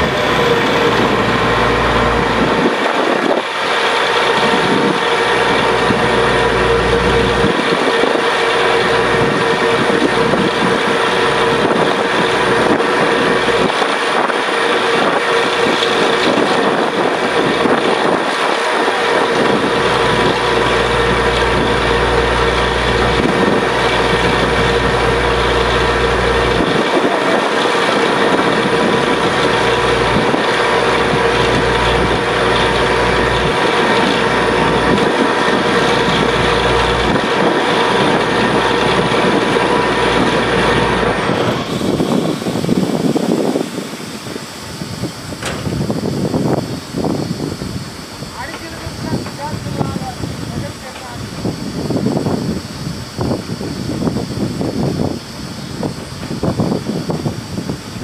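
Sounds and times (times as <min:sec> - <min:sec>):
drilling rig running: 0:00.0 - 0:58.0.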